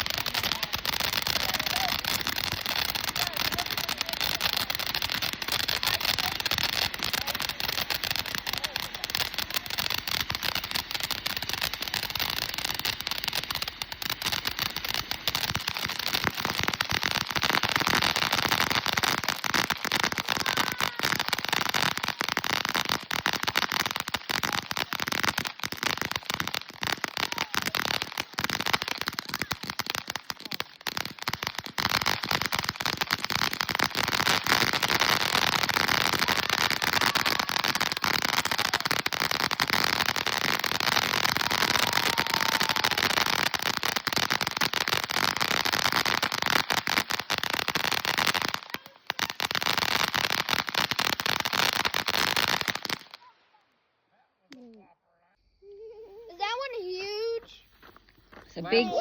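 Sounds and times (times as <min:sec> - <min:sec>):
fireworks crackling: 0:00.0 - 0:53.6, 0:55.8 - 0:59.0.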